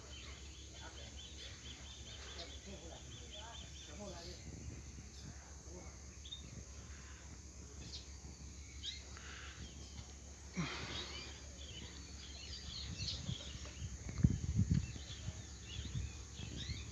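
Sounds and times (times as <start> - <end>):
birds chirping: 0.0 - 16.9
low outdoor background: 0.0 - 16.9.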